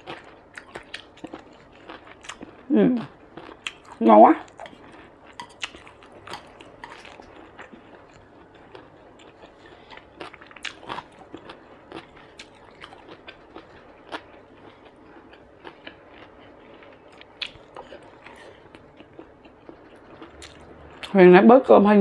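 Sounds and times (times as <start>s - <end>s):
chewing food: 0.0s - 21.2s.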